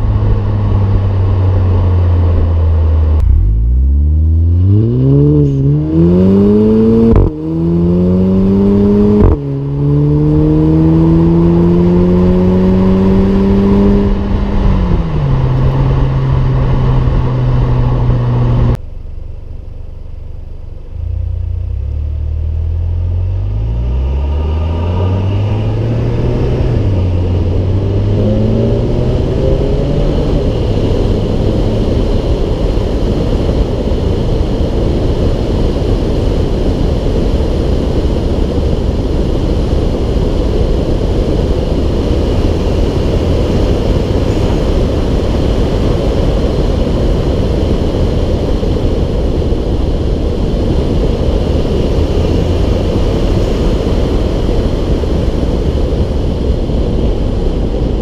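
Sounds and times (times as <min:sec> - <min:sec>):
car engine accelerating hard: 0:00.0 - 0:18.8, 0:20.0 - 0:58.0
wind and tyre roar: 0:00.0 - 0:58.0.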